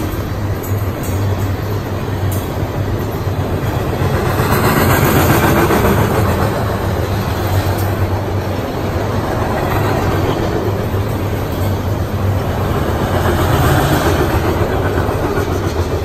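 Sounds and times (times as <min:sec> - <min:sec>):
freight train wheels rumbling on rail: 0:00.0 - 0:16.0.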